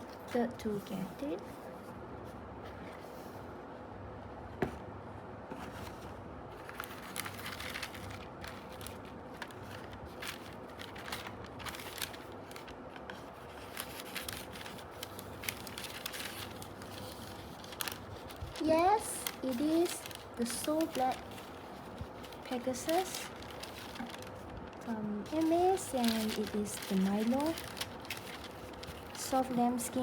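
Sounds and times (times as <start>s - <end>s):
paper packaging rustling: 5.5s - 30.0s.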